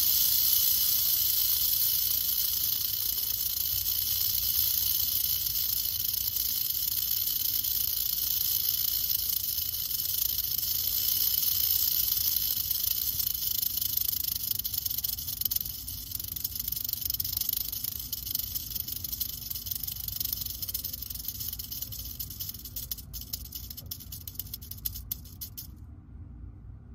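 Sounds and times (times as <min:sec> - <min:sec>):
rattlesnake rattling: 0:00.0 - 0:25.7.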